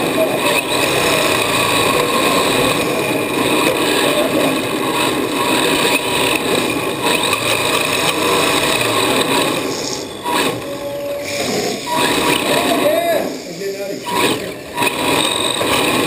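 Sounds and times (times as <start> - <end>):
motor and drivetrain whine: 0.0 - 16.0
tyre and chassis noise: 0.0 - 16.0.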